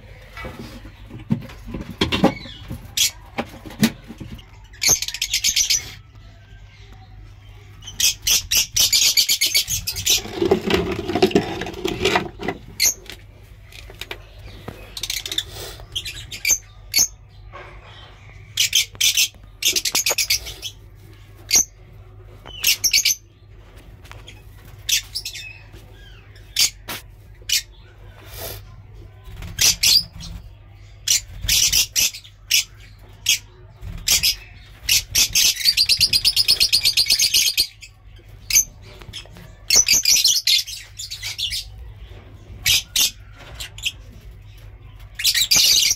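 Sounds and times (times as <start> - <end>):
lovebirds chirping: 4.2 - 45.9.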